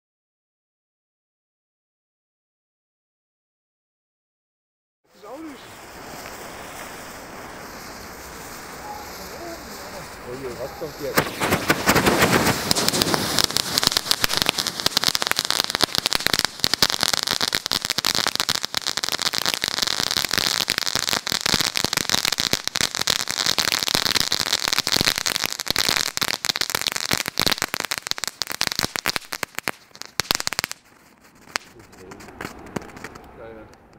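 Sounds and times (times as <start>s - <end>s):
firework hiss: 5.1s - 33.6s
firework crackling pops: 5.1s - 33.9s.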